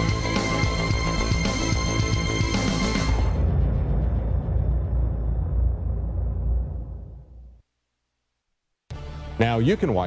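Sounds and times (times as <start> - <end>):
music: 0.0 - 7.1, 8.9 - 10.0.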